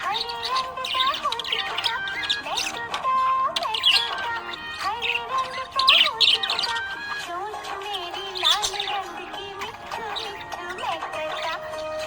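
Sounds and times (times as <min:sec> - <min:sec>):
background music wavering melody: 0:00.0 - 0:12.0.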